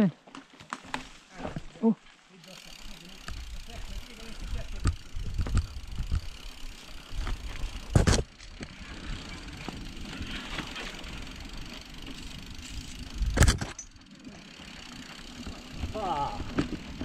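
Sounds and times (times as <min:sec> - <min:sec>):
bike tyres rolling and rattling: 0:00.2 - 0:17.0.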